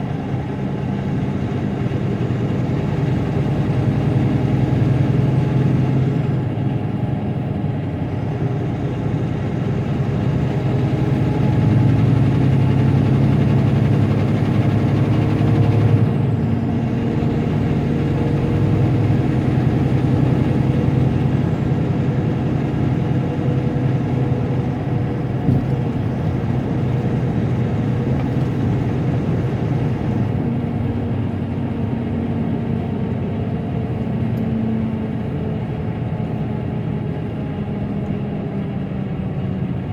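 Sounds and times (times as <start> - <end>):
diesel truck engine humming: 0.0 - 39.9.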